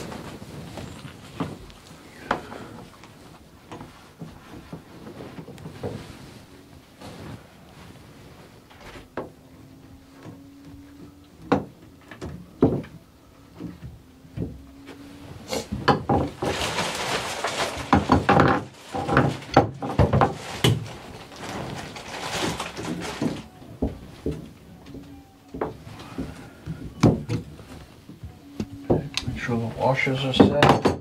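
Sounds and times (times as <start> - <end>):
clattering and rustling: 0.0 - 31.0.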